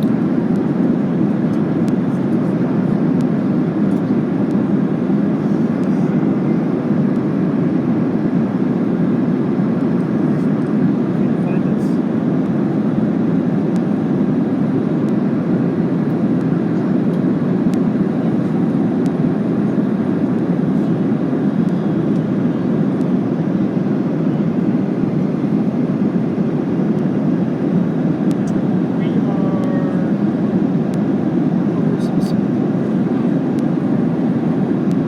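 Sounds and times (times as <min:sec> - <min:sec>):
aircraft cabin roar: 0:00.0 - 0:35.0.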